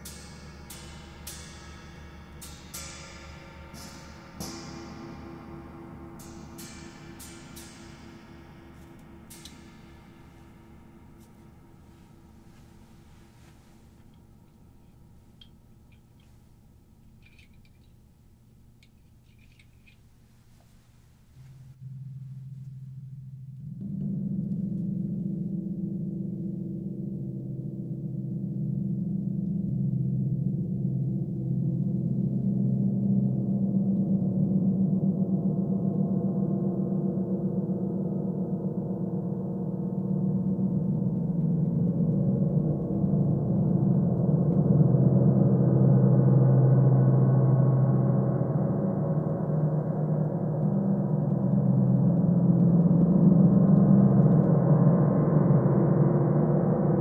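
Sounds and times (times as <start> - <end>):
gong roll with soft mallets: 0.0 - 15.2, 21.4 - 57.0.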